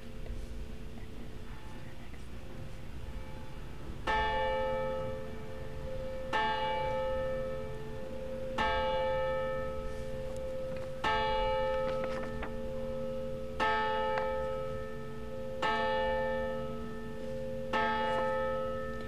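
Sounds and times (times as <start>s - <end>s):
church bell tolling: 2.4s - 19.0s.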